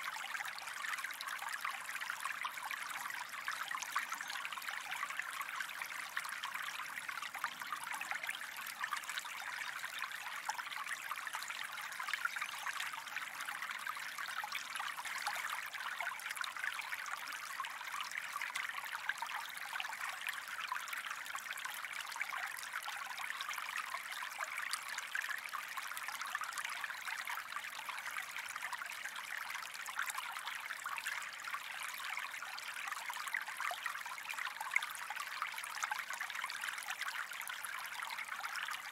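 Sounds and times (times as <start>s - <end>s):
stream of water flowing: 0.0s - 38.9s.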